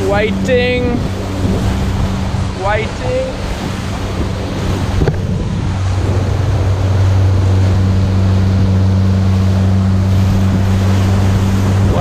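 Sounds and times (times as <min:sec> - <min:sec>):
outboard motor running: 0:00.0 - 0:12.0
rushing wake water: 0:00.0 - 0:12.0.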